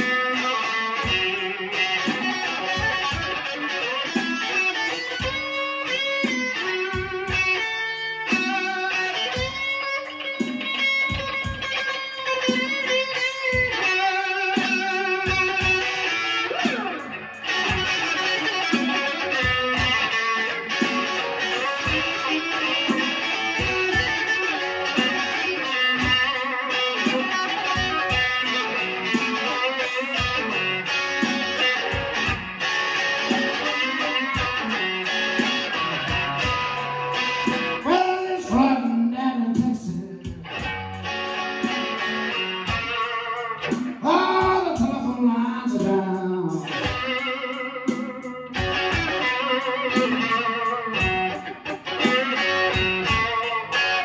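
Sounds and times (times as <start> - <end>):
electric guitar playing slow blues: 0.0 - 54.0.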